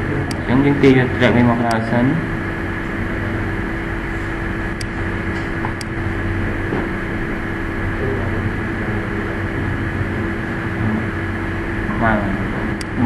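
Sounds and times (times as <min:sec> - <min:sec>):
background hum with constant tones: 0:00.0 - 0:13.0.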